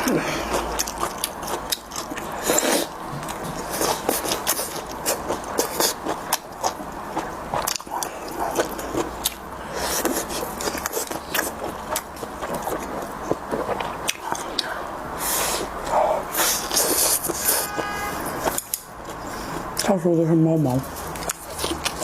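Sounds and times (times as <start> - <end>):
biting and chewing food: 0.0 - 14.8, 15.5 - 20.0, 20.8 - 22.0.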